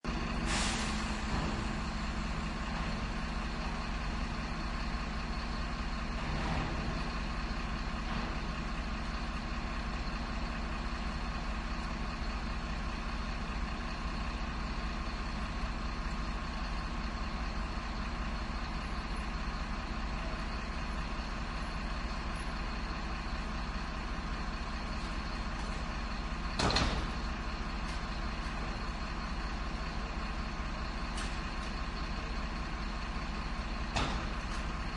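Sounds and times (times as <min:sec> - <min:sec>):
garbage truck engine idling: 0:00.0 - 0:34.9.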